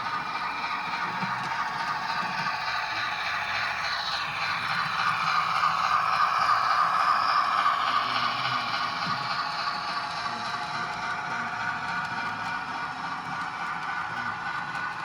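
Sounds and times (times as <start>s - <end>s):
model train wheels rolling: 0.0s - 15.0s.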